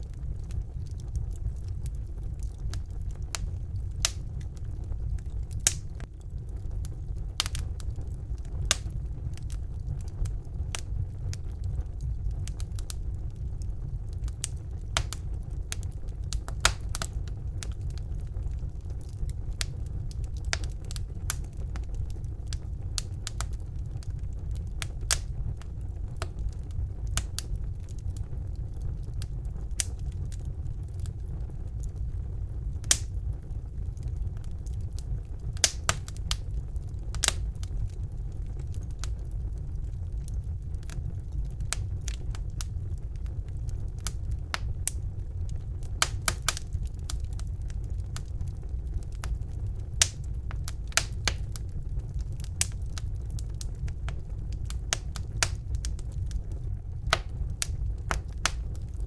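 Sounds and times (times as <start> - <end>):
logs crackling and popping: 0.0 - 59.0
low rumble of flames: 0.0 - 59.0.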